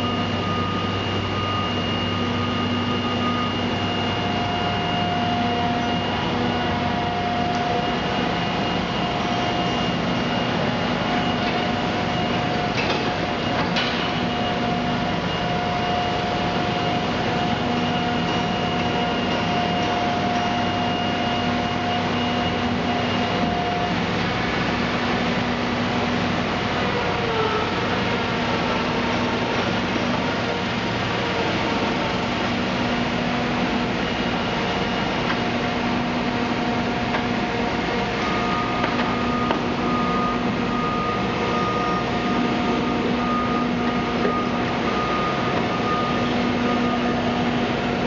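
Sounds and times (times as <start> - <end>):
steady whine: 0.0 - 48.0.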